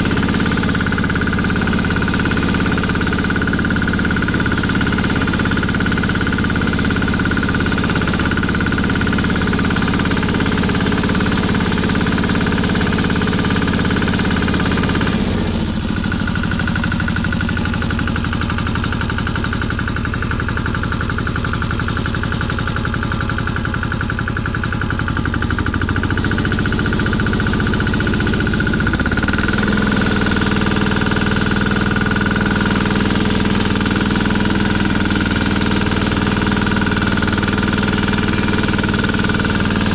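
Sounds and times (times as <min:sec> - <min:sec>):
walking tractor engine with tiller: 0:00.0 - 0:39.9.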